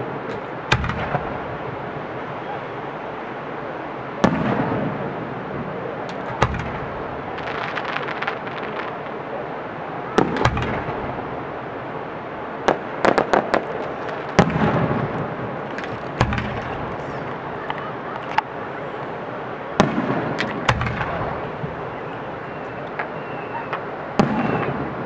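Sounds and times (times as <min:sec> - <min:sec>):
firework bangs: 0:00.0 - 0:02.7, 0:04.2 - 0:11.9, 0:12.6 - 0:25.0
steady background noise: 0:00.0 - 0:25.0
firework cracks: 0:00.2 - 0:01.6, 0:04.2 - 0:09.4, 0:10.0 - 0:11.5, 0:12.6 - 0:25.0.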